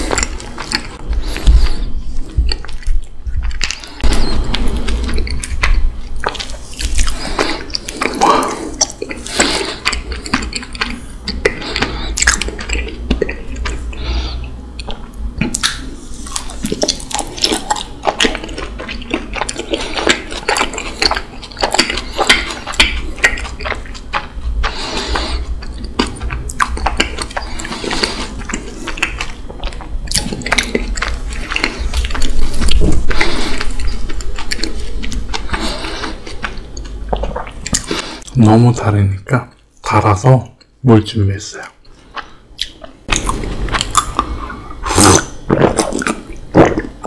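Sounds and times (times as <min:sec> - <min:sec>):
honeycomb chewing mouth sounds: 0:00.0 - 0:38.6, 0:41.6 - 0:47.0.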